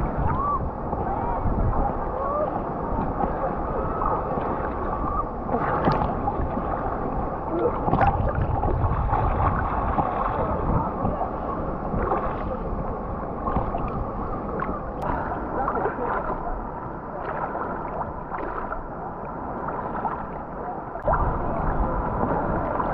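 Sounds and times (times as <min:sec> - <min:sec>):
muffled waves lapping: 0:00.0 - 0:22.9
water splashes: 0:00.0 - 0:22.9.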